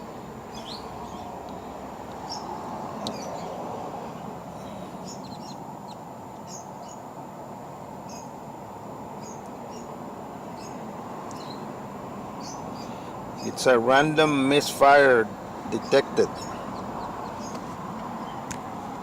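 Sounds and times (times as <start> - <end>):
small birds chirping: 0.4 - 7.1, 8.0 - 8.4, 9.1 - 18.8.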